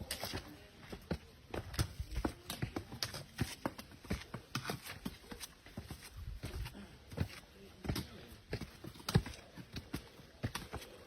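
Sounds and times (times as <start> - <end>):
footsteps on rocky leafy trail: 0.0 - 11.0.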